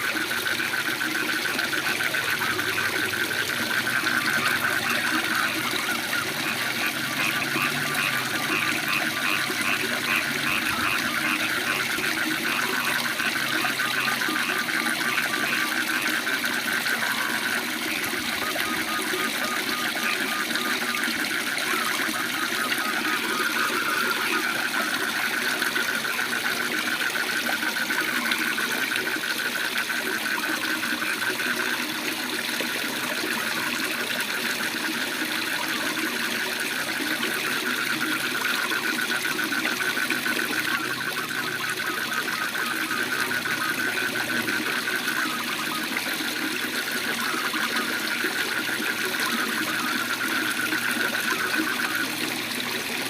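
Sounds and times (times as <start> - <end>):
frogs trilling: 0.0 - 53.0.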